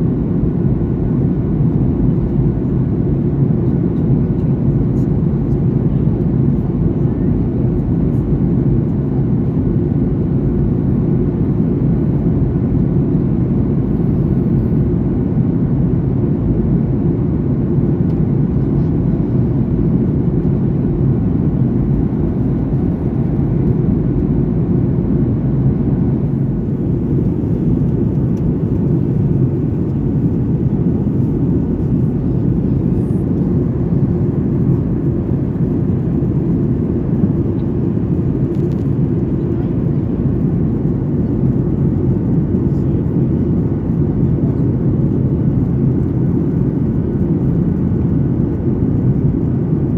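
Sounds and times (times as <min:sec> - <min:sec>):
airplane cabin engine rumble: 0:00.0 - 0:49.9.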